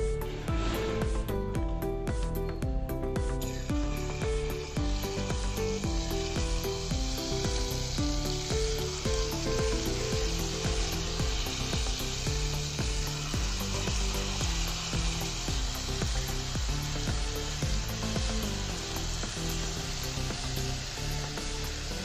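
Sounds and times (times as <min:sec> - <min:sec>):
background music with steady beat: 0:00.0 - 0:22.0
batter sizzling in hot oil: 0:00.1 - 0:22.0.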